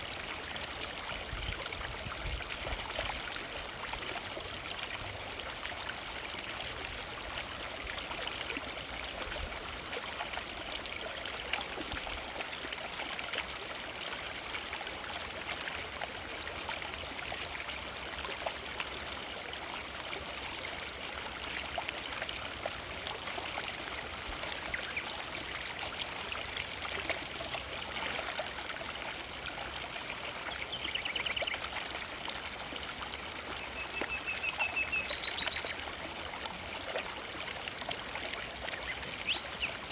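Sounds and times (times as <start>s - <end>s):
river flowing over stones: 2.5s - 39.9s.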